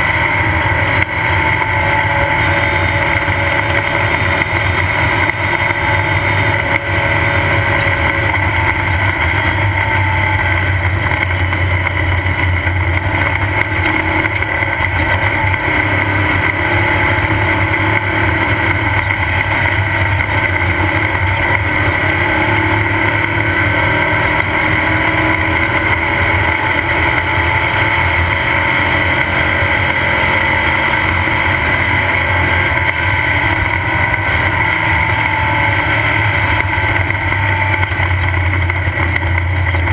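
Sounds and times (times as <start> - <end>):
race car engine drone: 0.0 - 39.9.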